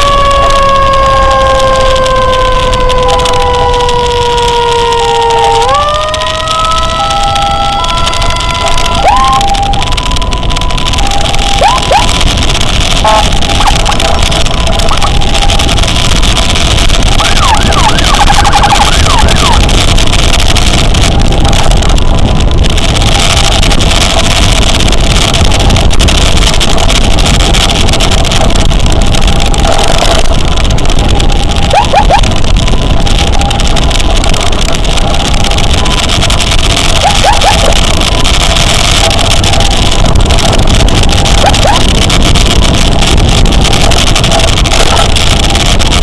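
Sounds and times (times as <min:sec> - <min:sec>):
distant emergency siren: 0:00.0 - 0:46.0
motorcycle engine at speed: 0:00.0 - 0:46.0
wind noise: 0:00.0 - 0:46.0.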